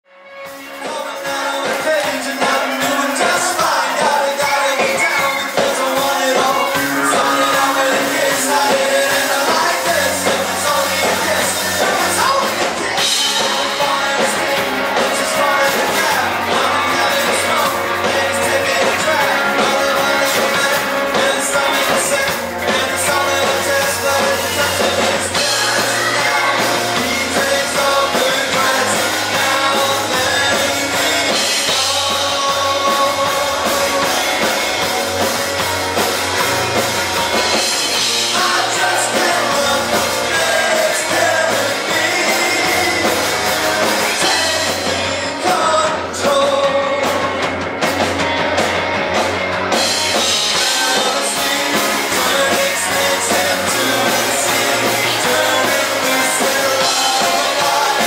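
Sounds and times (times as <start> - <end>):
electric guitars: 0.1 - 58.0
drum kit: 0.2 - 58.0
person singing: 0.4 - 58.0.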